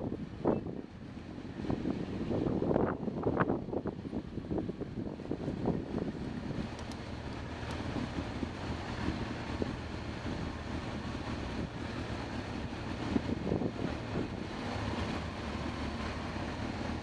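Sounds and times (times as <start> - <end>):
motorcycle engines idling: 0.0 - 17.0.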